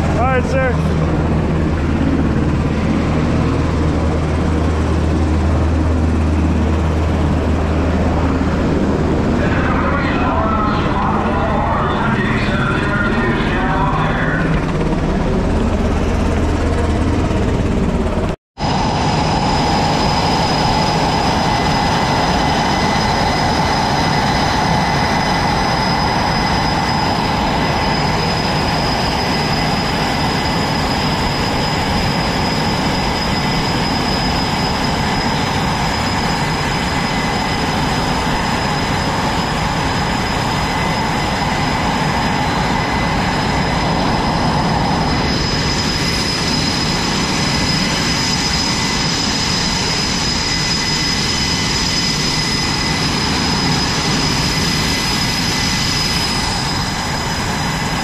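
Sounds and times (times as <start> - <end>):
high turbine whine: 0.0 - 58.0
jet engine noise: 0.0 - 58.0.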